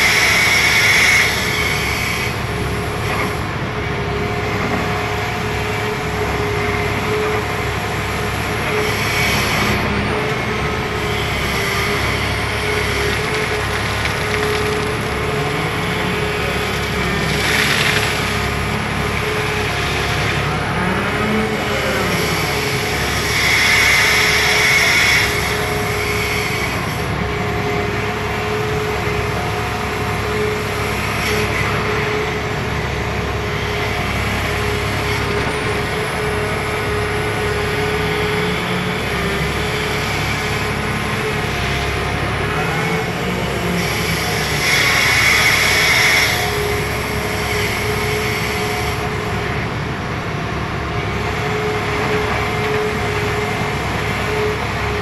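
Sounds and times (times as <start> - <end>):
excavator diesel engine under load: 0.0 - 55.0.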